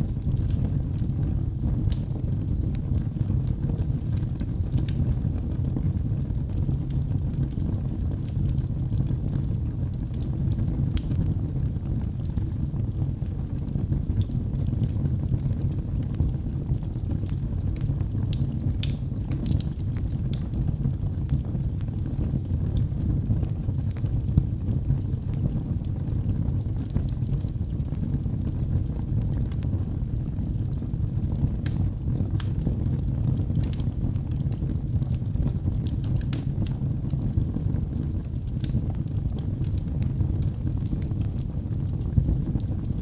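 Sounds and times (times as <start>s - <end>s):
fire rumbling: 0.0s - 43.0s
wood crackling and popping: 0.1s - 43.0s.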